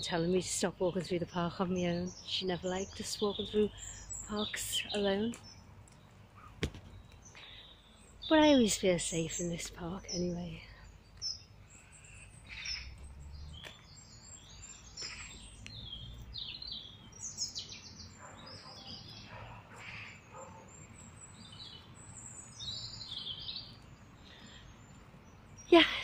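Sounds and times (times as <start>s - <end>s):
songbirds chirping and singing: 0.0s - 26.0s.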